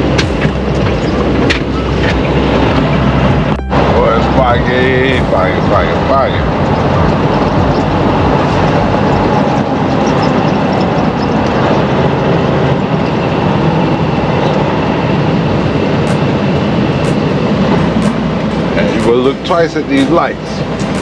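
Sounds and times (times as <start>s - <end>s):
truck engine drone in cab: 0.0s - 21.0s.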